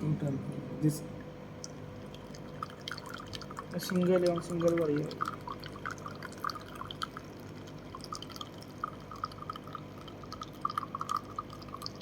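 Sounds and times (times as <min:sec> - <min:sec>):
faint machine hum: 0:00.0 - 0:12.0
coffee dripping into a cup: 0:01.6 - 0:12.0.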